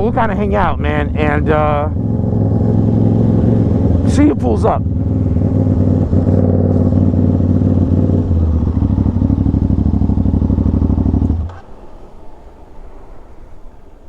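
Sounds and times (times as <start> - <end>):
motorcycle engine idling: 0.0 - 12.2.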